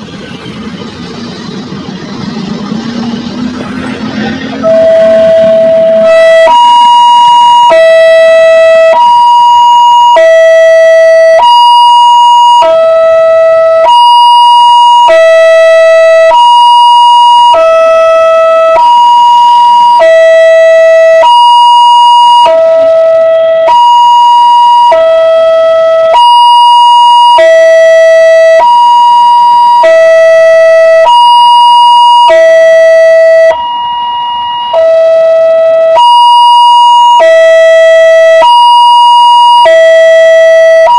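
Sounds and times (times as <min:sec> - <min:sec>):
two-tone hi-lo siren: 0:00.0 - 0:40.9.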